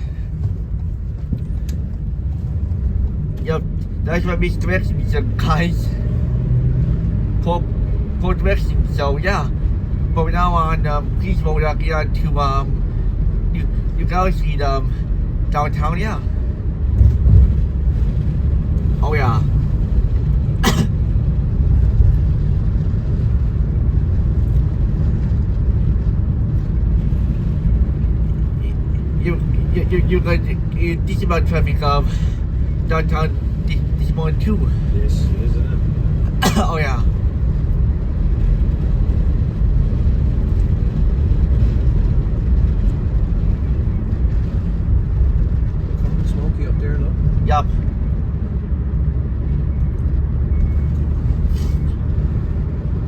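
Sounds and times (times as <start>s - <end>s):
car engine and tyre rumble: 0.0s - 53.0s
road noise: 0.0s - 53.0s.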